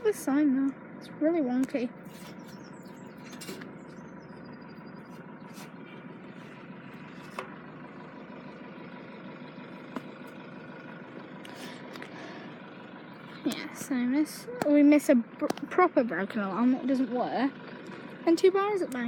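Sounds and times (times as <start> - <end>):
road vehicles idling: 0.0 - 19.0.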